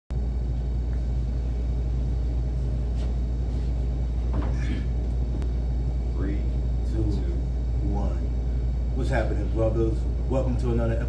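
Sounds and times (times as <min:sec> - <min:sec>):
cafe room noise: 0:00.1 - 0:11.0.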